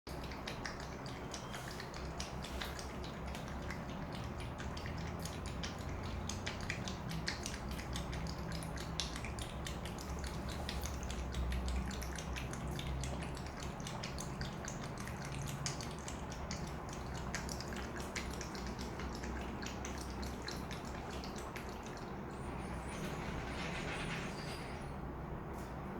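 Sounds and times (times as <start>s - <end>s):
cat lapping water: 0.1s - 24.4s.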